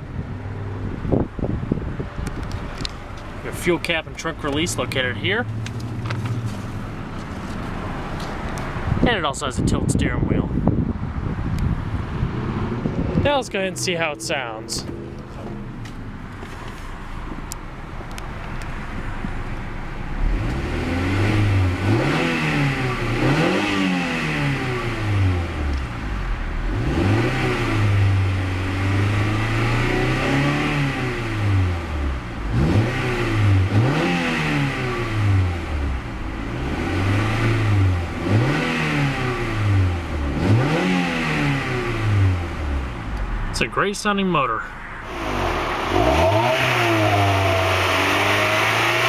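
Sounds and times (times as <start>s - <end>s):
car engine idling and revving: 0.0s - 9.2s, 10.0s - 43.7s, 44.7s - 49.0s.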